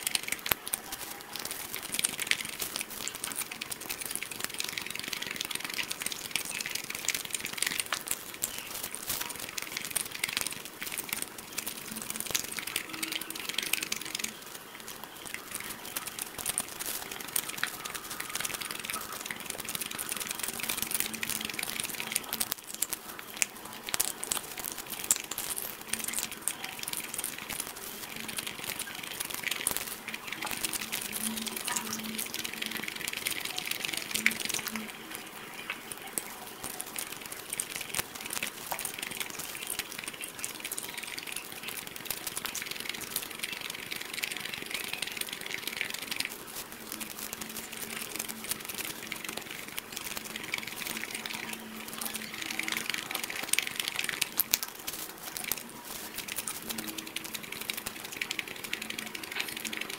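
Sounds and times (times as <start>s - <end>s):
chewing and wet mouth sounds: 0.0s - 59.9s
skin and meat crackling when peeled: 0.0s - 59.9s.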